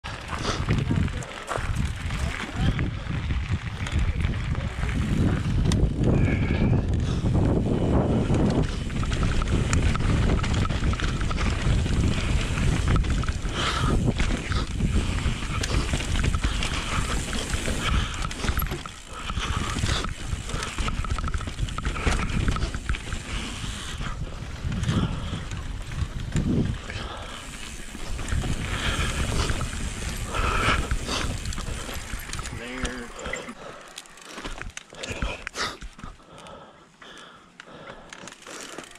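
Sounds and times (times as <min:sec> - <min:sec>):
wind buffeting microphone: 0:00.0 - 0:33.7
tyres rolling on gravel: 0:00.0 - 0:36.7, 0:37.8 - 0:38.9
bike rattling: 0:00.0 - 0:38.9.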